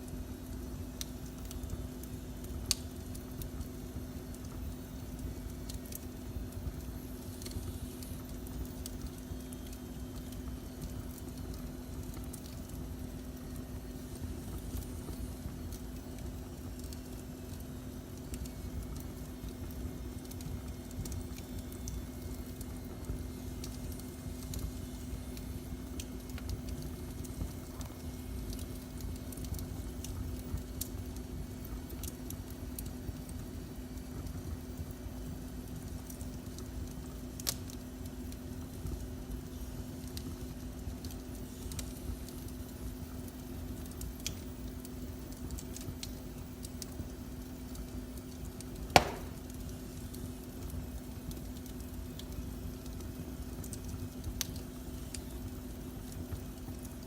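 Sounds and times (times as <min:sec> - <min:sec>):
wood fire crackling: 0:00.0 - 0:57.0
fire pops: 0:00.1 - 0:57.0.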